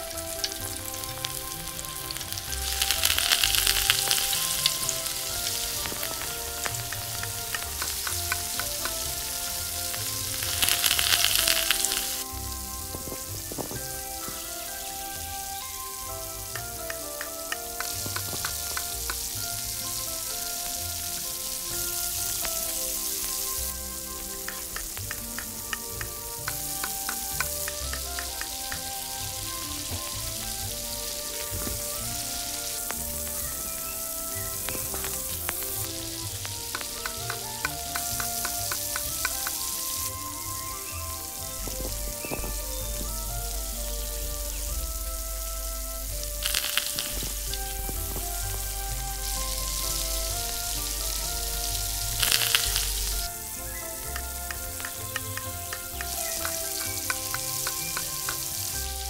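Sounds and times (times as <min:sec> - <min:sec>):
food sizzling in oil: 0:00.0 - 0:44.8, 0:46.0 - 0:59.0.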